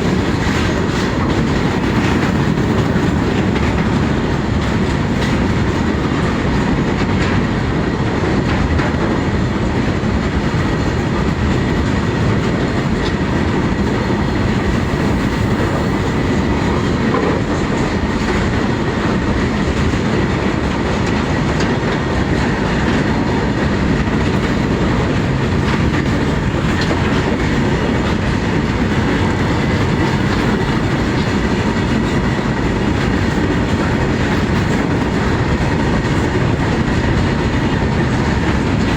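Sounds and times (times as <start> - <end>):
clickety-clack over rail joints: 0.0 - 38.9
freight train wheels rumbling: 0.0 - 38.9.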